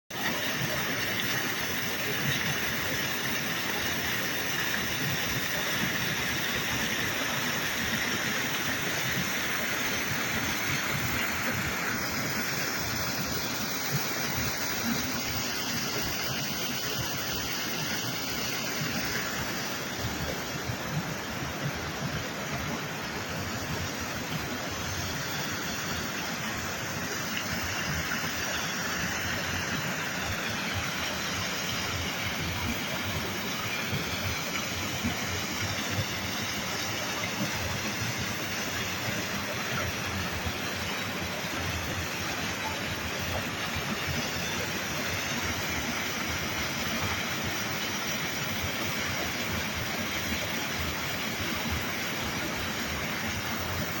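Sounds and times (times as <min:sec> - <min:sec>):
spring water rushing: 0:00.1 - 0:54.0.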